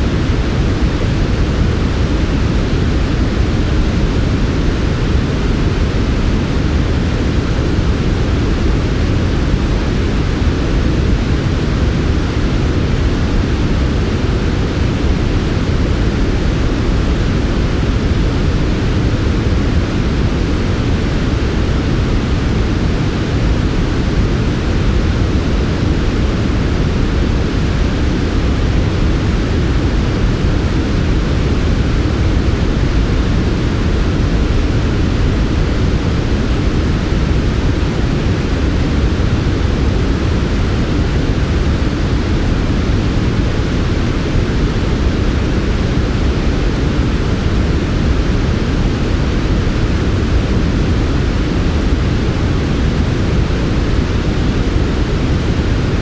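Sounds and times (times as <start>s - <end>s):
synthesized white noise: 0.0s - 56.0s.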